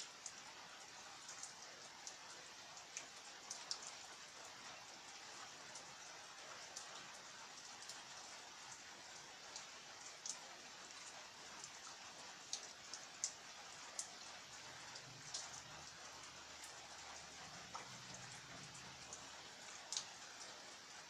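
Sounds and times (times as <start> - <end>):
steady light rain: 0.0 - 21.0.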